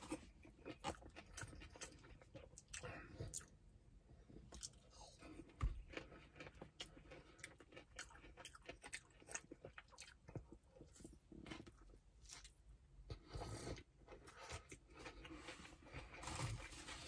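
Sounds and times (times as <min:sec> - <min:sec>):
chewing and biting: 0:00.0 - 0:03.6, 0:04.5 - 0:16.6.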